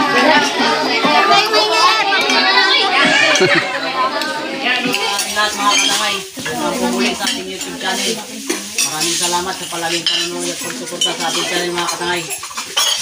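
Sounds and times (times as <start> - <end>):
dishes and cutlery clinking: 0.0 - 13.0.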